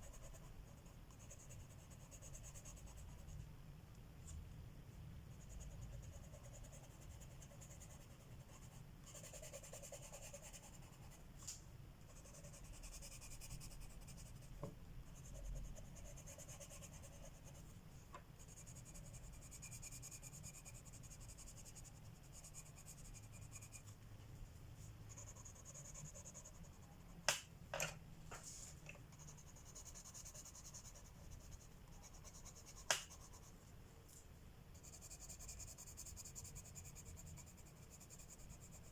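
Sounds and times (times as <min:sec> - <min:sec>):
colored pencil scratching on paper: 0:00.0 - 0:03.4, 0:05.3 - 0:11.2, 0:12.1 - 0:17.7, 0:18.4 - 0:23.9, 0:25.1 - 0:27.2, 0:28.5 - 0:33.6, 0:34.7 - 0:38.9.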